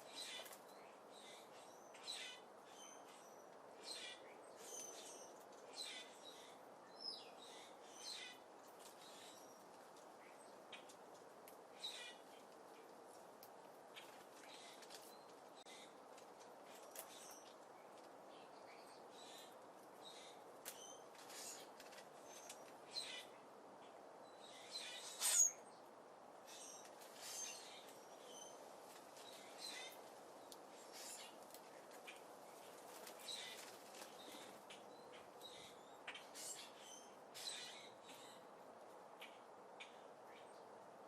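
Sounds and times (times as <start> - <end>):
birds chirping: 0.0 - 40.8.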